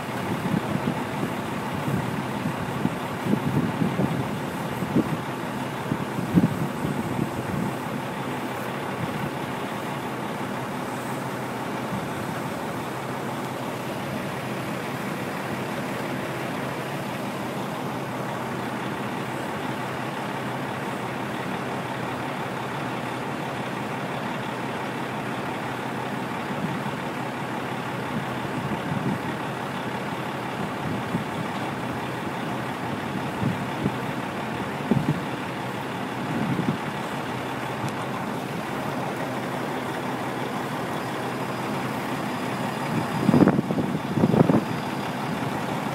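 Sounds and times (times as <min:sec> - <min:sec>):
crane engine droning: 0:00.0 - 0:45.9.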